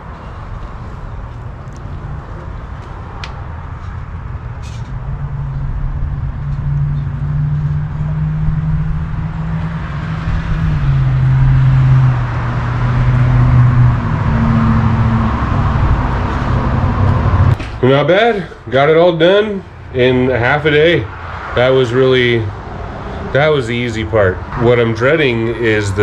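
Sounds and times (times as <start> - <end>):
pickup engine running: 0.0 - 26.0
rushing air noise: 0.0 - 26.0.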